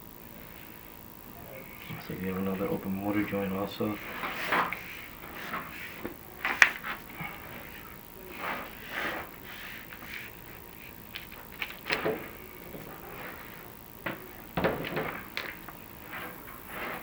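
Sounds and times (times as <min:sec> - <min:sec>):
cable scraping flue walls: 0:01.5 - 0:17.0.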